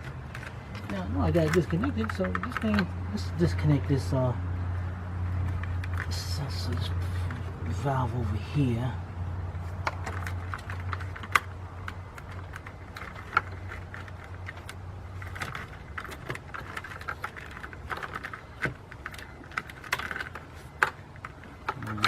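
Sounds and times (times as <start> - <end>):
plastic parts clicking and knocking: 0.0 - 4.1, 5.3 - 7.6, 9.7 - 22.0.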